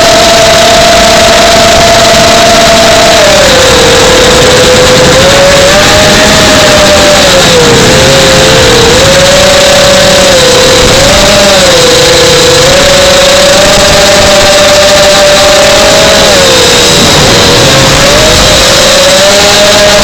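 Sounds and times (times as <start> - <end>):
model airplane motor and propeller: 0.0 - 20.0.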